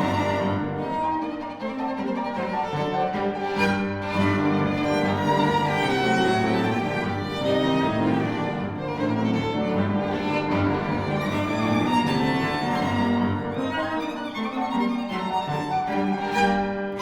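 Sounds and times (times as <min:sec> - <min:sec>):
violin and cello playing: 0:00.0 - 0:17.0.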